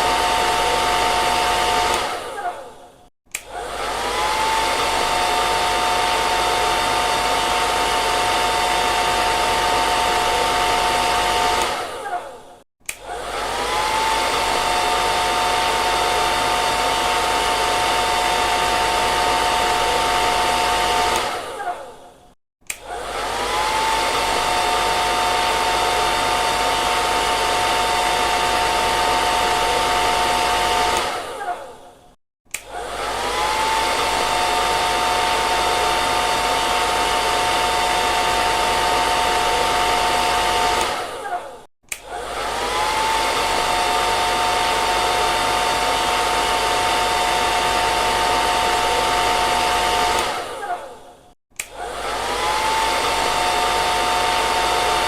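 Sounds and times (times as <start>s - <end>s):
hair dryer blowing: 0.0s - 31.9s, 32.5s - 55.0s.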